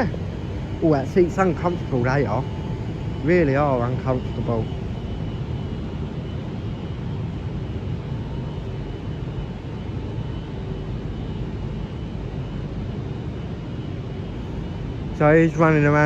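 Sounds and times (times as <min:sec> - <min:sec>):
faint steady whine: 0:00.0 - 0:16.0
railway station low rumble: 0:00.0 - 0:16.0.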